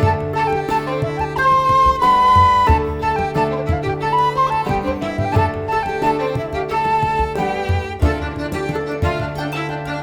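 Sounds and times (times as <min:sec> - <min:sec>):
instrumental music with flute and strings: 0:00.0 - 0:10.0.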